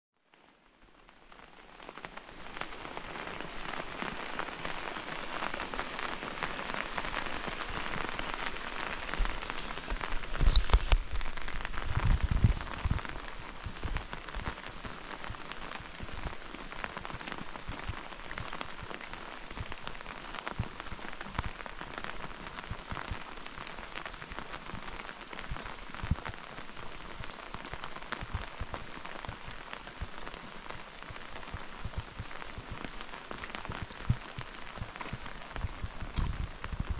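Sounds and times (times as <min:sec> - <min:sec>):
rain on concrete road: 0:00.2 - 0:36.9.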